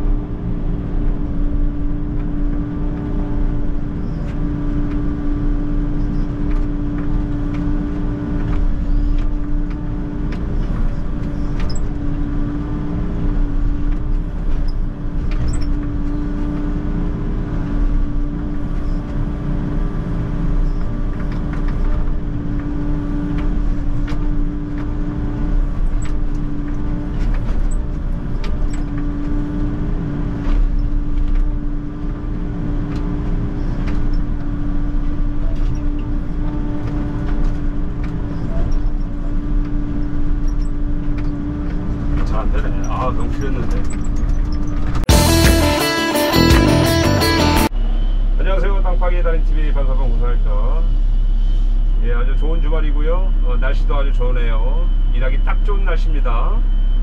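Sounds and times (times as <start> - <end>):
excavator engine running: 0.0 - 48.4.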